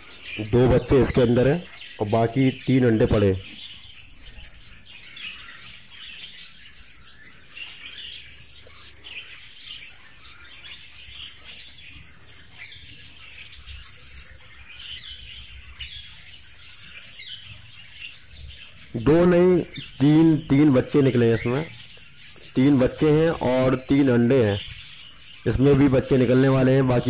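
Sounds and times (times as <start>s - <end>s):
budgerigars chirping: 0.0s - 27.0s.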